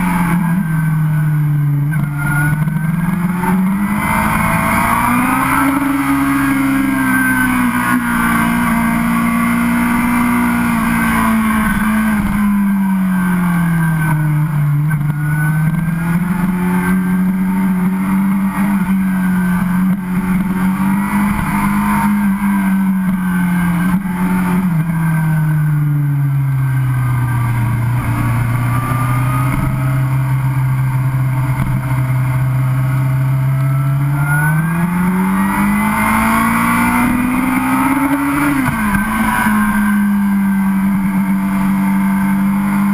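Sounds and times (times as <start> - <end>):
motorcycle engine: 0.0 - 42.9.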